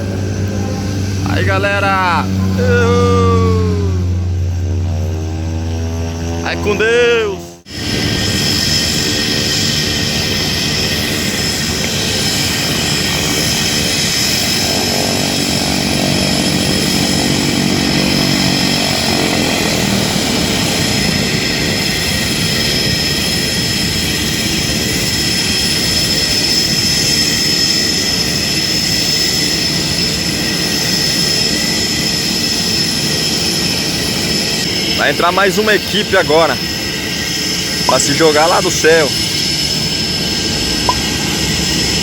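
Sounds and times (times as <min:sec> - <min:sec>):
high whine: 0:00.0 - 0:42.0
low propeller hum: 0:00.0 - 0:42.0
propeller plane engine: 0:00.0 - 0:42.0.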